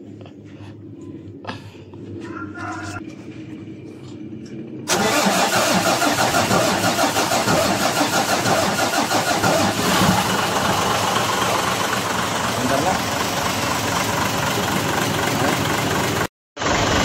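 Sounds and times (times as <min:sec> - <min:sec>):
diesel engine starting and running: 0:00.0 - 0:17.0.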